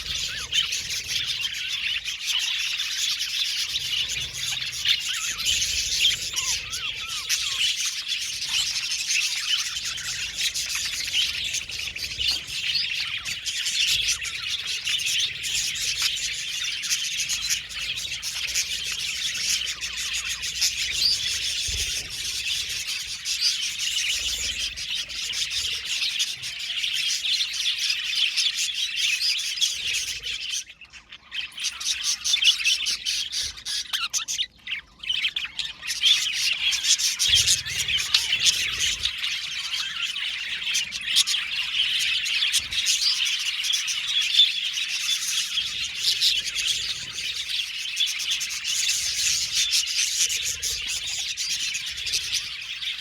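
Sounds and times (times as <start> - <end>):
flock of parakeets chattering: 0.0 - 53.0.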